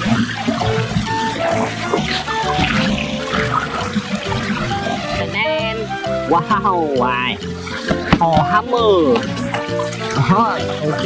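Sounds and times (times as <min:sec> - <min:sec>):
water swirling and splashing: 0:00.0 - 0:06.1, 0:07.4 - 0:11.0
background music with melody: 0:00.0 - 0:11.0.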